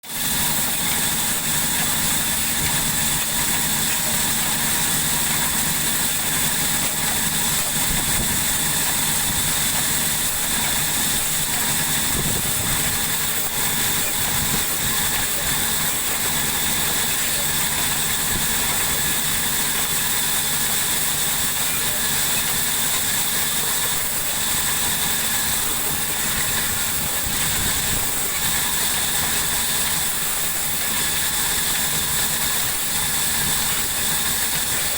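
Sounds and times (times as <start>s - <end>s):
high-pitched machinery hiss: 0.0s - 34.9s
motor hum: 0.0s - 34.9s.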